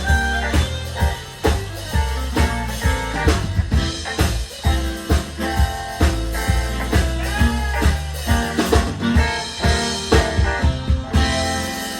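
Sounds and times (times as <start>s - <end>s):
drums on a steady beat: 0.0s - 11.9s
live band playing: 0.0s - 11.9s.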